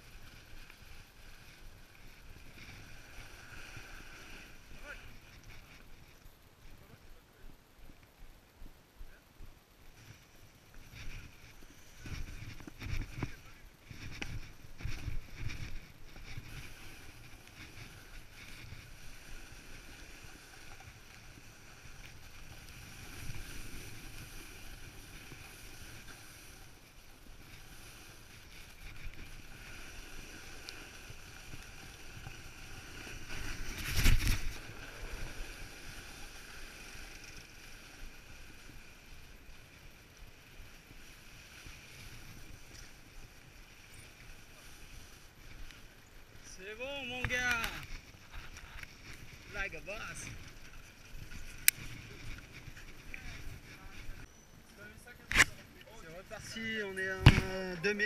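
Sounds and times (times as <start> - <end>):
snowboard scraping over snow: 0.0 - 7.0, 9.9 - 54.3.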